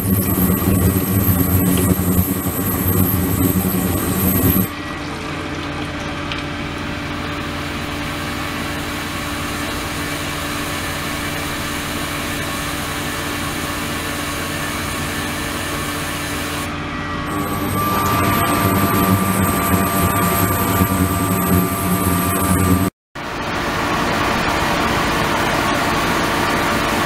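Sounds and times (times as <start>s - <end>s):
high whine: 0.0s - 5.3s, 7.3s - 27.0s
machine hum: 0.0s - 27.0s.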